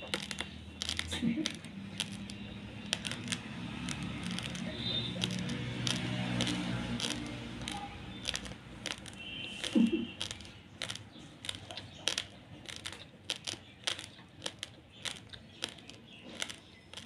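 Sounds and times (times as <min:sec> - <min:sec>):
rice crunching while chewed: 0:00.0 - 0:17.0.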